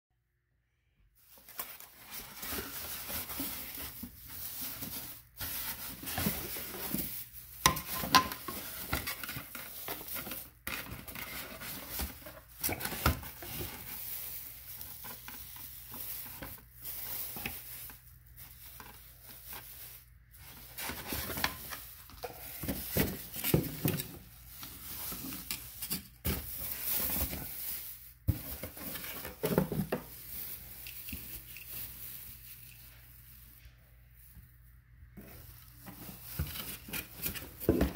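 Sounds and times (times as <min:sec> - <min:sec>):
plastic wrapping crinkling: 0:01.2 - 0:37.9.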